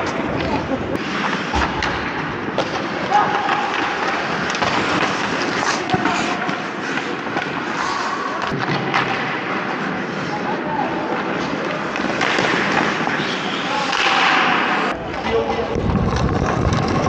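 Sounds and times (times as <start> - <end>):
skate blades scraping ice: 0.0 - 17.0
sticks and puck clacking: 0.0 - 17.0
voices echoing in rink: 0.0 - 17.0.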